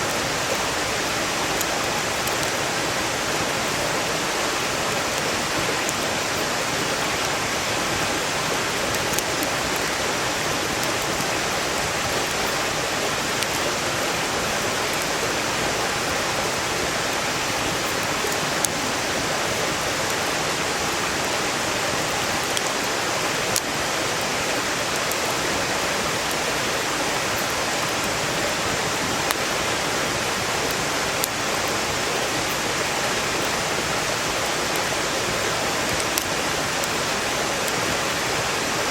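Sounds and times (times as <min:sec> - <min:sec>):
firewood popping and crackling: 0:00.0 - 0:21.4, 0:22.1 - 0:38.3
stream rushing: 0:00.0 - 0:38.9.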